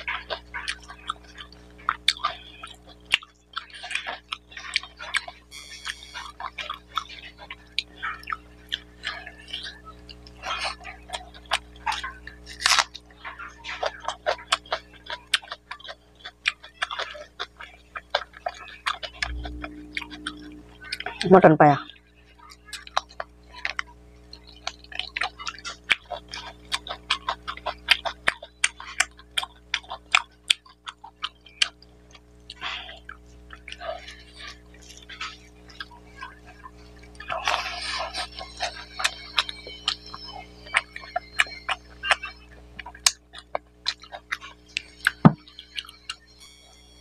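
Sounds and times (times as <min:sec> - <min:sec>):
wet chewing and lip-smacking: 0:00.0 - 0:46.3
steady low hum: 0:00.0 - 0:47.0.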